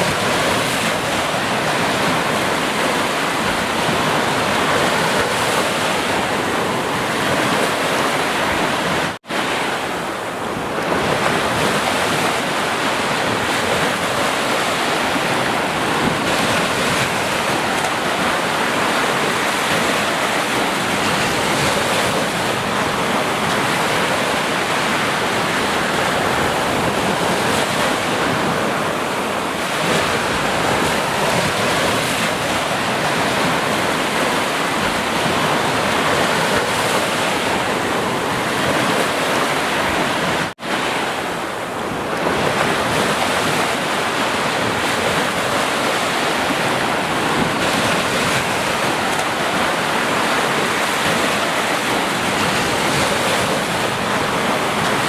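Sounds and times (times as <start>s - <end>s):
sea surf washing ashore: 0.0s - 55.0s.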